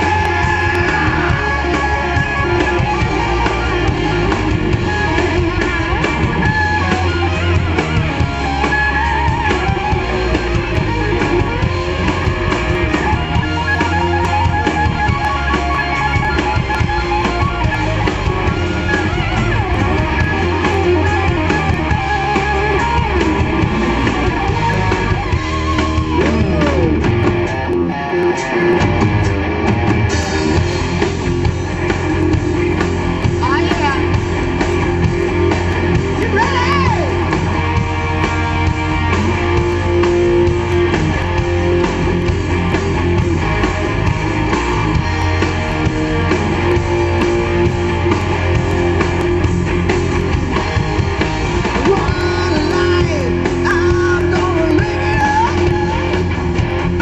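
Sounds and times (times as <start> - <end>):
bass and drum kit: 0.0 - 57.0
electric guitar lead: 0.0 - 57.0.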